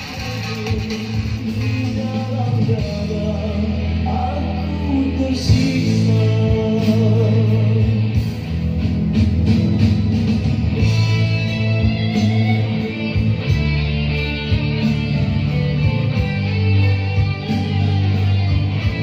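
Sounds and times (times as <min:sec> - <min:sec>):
rock music with singing: 0:00.0 - 0:19.0
strong bass: 0:00.0 - 0:19.0.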